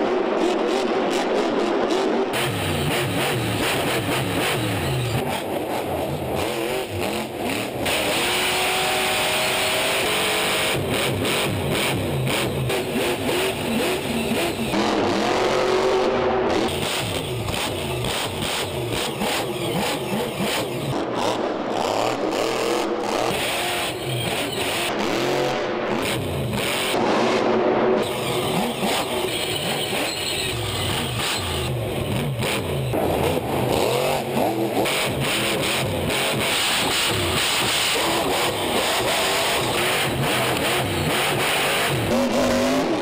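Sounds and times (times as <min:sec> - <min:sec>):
monster truck engine revving: 0:00.0 - 0:43.0.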